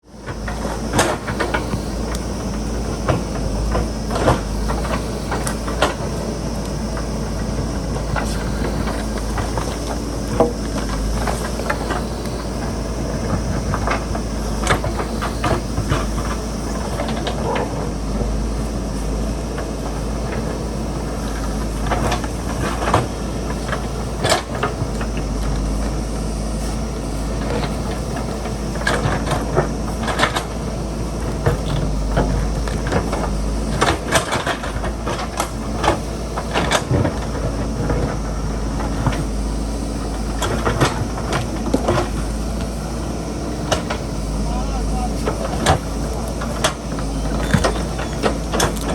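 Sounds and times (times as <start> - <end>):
diesel engine running: 0.0 - 48.9
digger bucket clanks and knocks: 0.1 - 48.9.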